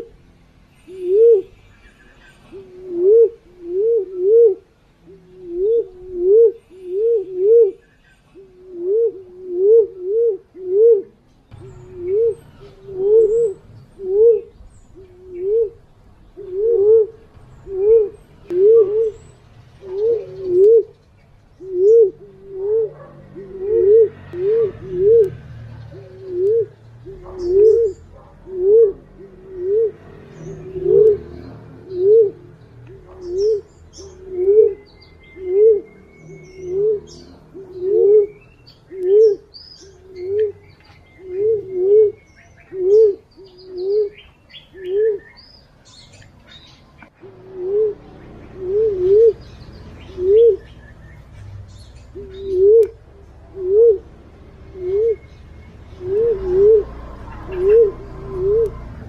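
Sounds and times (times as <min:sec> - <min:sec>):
small birds chirping: 0:00.0 - 0:59.0
pigeon cooing: 0:00.8 - 0:01.6, 0:02.2 - 0:21.0, 0:21.6 - 0:45.4, 0:47.0 - 0:50.8, 0:52.1 - 0:59.0.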